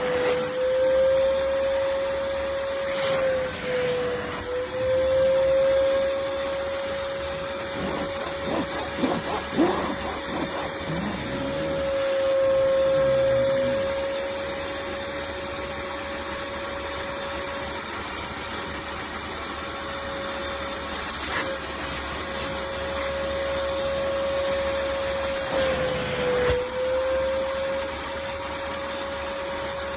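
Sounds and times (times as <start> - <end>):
carpet cleaner motor whine: 0.0 - 29.9.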